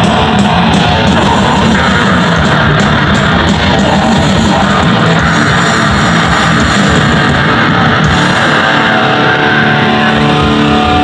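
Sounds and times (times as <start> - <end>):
distorted electric guitar: 0.0 - 11.0
drums: 0.0 - 11.0.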